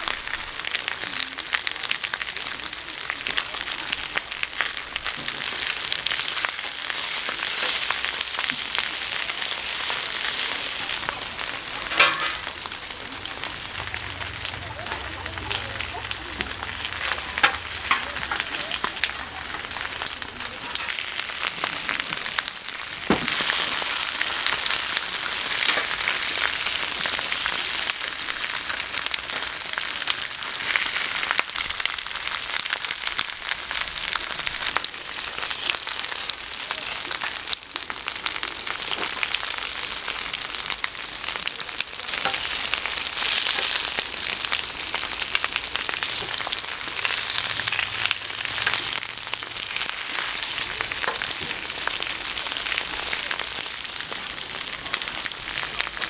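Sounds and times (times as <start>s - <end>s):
meat sizzling on griddle: 0.0s - 56.0s.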